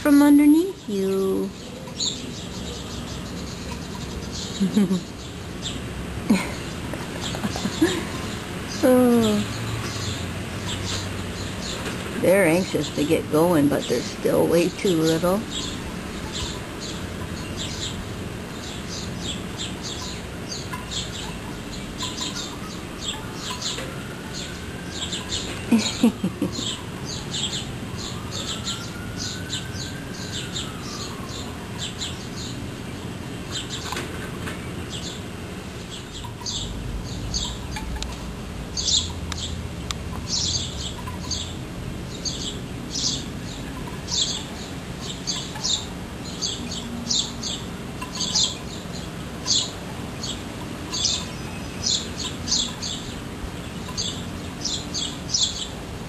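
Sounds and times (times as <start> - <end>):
bird chirping: 0.0 - 18.0, 18.6 - 32.6, 35.9 - 38.2, 38.8 - 55.8.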